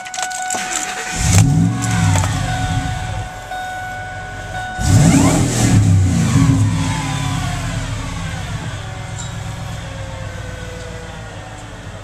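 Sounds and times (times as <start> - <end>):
supercharger whine: 0.8 - 12.0
engine revving and idling: 1.0 - 12.0.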